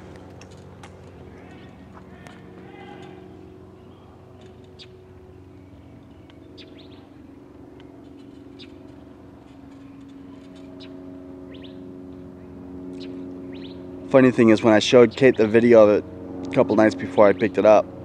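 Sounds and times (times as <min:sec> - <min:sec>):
low mechanical hum: 0:00.0 - 0:18.0
birds chirping: 0:01.2 - 0:15.8, 0:16.6 - 0:17.8.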